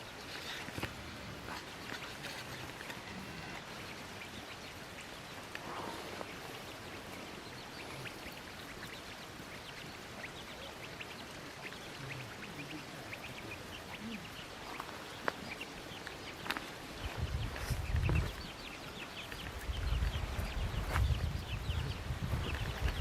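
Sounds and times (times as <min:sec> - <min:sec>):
faint ticks and rustles: 0:00.0 - 0:23.0
steady outdoor hiss: 0:00.0 - 0:23.0.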